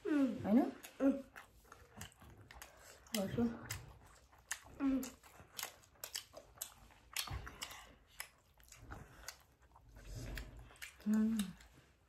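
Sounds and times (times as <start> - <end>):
people chewing with mouth smacks: 0.0 - 12.0.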